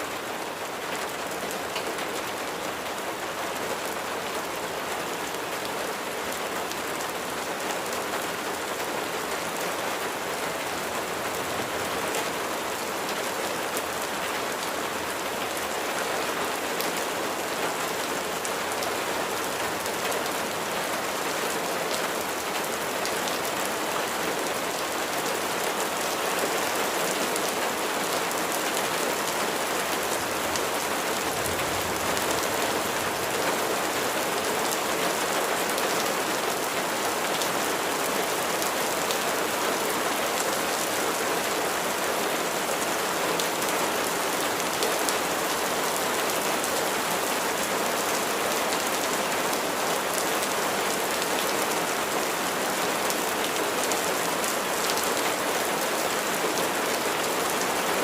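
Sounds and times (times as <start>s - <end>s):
rain pattering: 0.1s - 58.0s.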